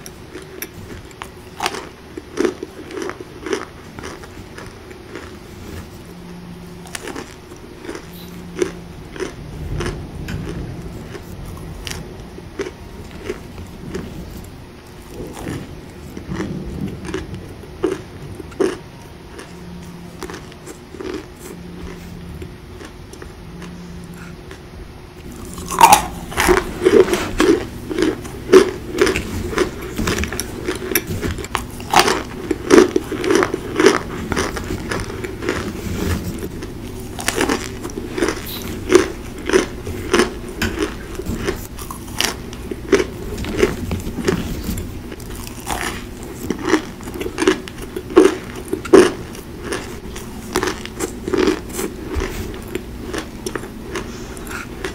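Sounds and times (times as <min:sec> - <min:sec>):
crunchy chewing: 0:00.0 - 0:24.6, 0:25.2 - 0:54.9.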